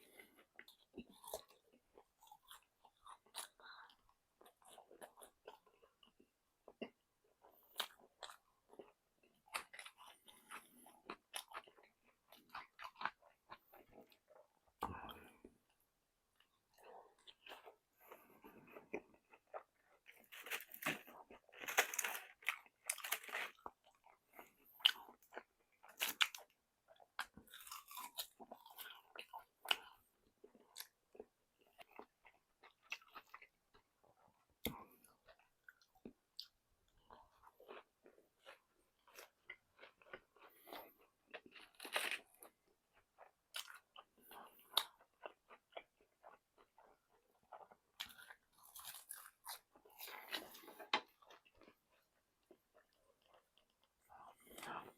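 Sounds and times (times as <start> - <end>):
chewing crispy fried chicken: 0.0 - 54.9.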